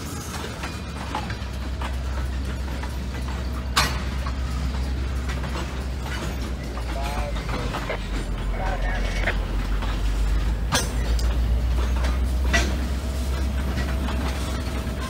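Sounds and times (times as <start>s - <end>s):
freight train rumbling past: 0.0s - 15.0s
wheels clicking and squeaking: 0.0s - 15.0s.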